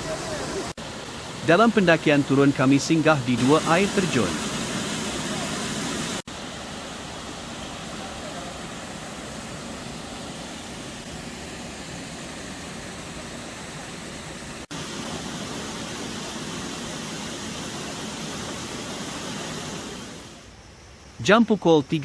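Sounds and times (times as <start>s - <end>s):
waterfall rushing: 0.0s - 20.4s.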